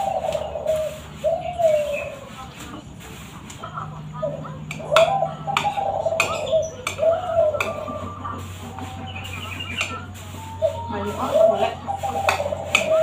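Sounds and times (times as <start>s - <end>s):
dove cooing: 0.0s - 2.9s, 3.6s - 13.0s
birds chirping: 0.0s - 13.0s.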